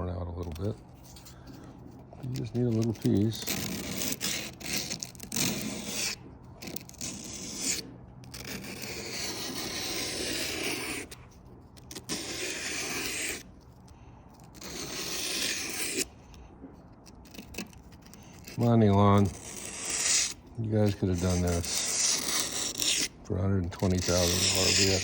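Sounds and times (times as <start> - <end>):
sanding cloth scraping metal edge: 2.2 - 11.2, 11.8 - 13.5, 14.5 - 16.1, 17.2 - 25.0.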